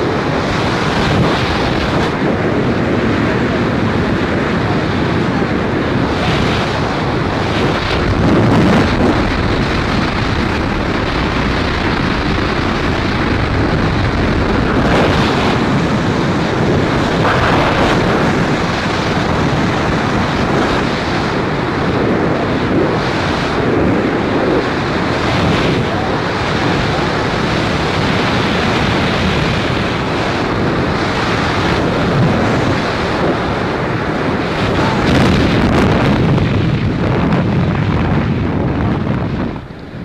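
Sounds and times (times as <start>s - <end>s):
wind roaring over microphone: 0.0s - 40.0s.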